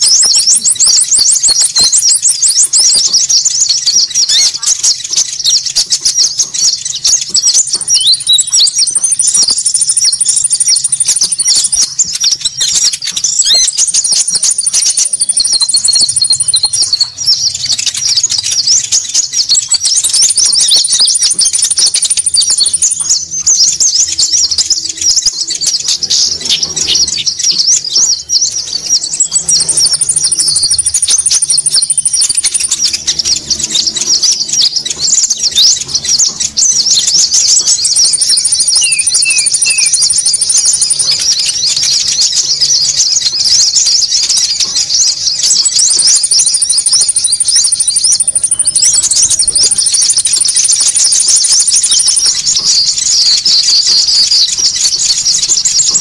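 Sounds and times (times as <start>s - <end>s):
birds chattering: 0.0s - 56.0s
high bird trill: 0.0s - 56.0s.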